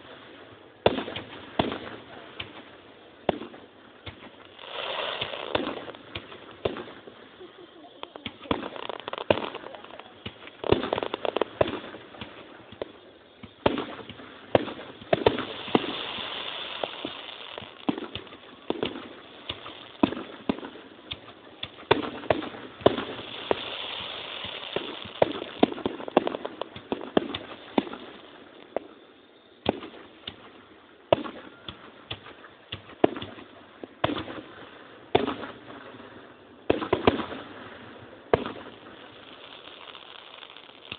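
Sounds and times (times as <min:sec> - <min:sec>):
fireworks banging: 0:00.0 - 0:40.9
fireworks crackling: 0:00.0 - 0:40.9.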